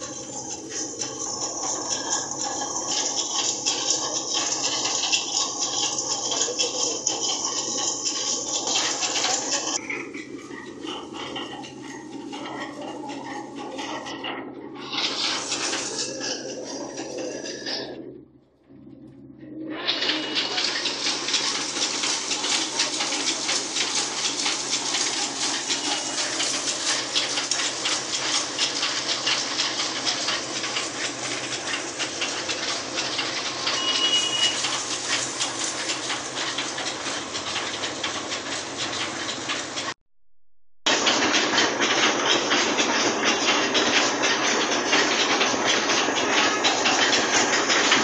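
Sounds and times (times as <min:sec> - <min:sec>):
grinding mill rattling hiss: 0:00.0 - 0:18.2, 0:19.7 - 0:40.0, 0:40.9 - 0:48.0.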